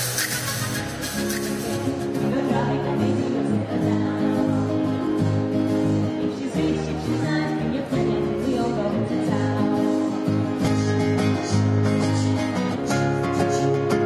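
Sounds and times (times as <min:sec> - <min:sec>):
electric bass guitar: 0:00.0 - 0:14.0
strummed acoustic guitar: 0:00.0 - 0:14.0.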